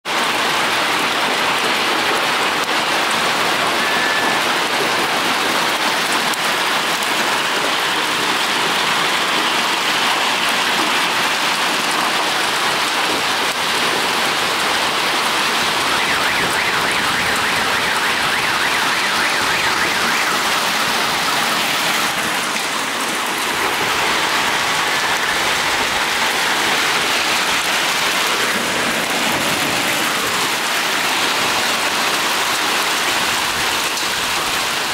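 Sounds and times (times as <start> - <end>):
hail pelting pavement and cars: 0.0 - 34.9.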